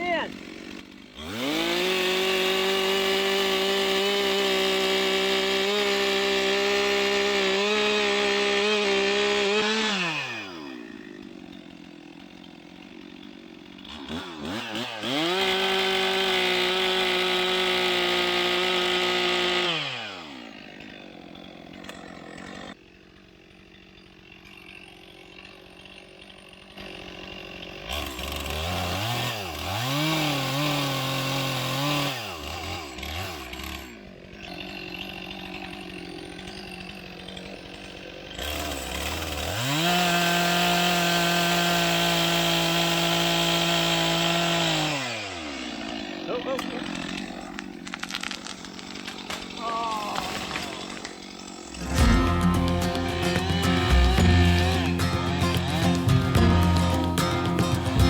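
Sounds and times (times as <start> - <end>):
chainsaw cutting and idling: 0.0 - 58.0.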